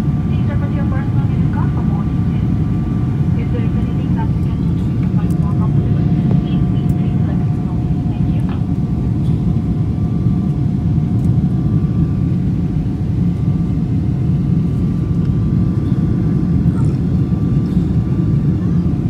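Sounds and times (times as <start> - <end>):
faint steady whine: 0.0 - 19.0
jet engine cabin rumble: 0.0 - 19.0.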